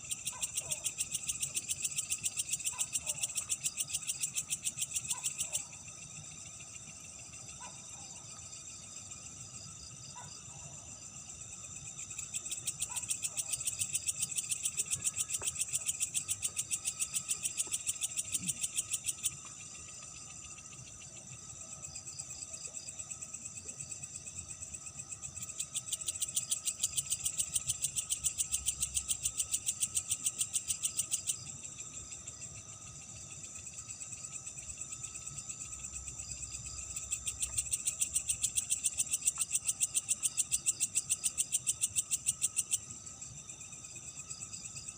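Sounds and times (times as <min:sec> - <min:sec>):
high-pitched insect chorus: 0:00.0 - 0:44.9
rapidly pulsing insect call: 0:00.0 - 0:44.9.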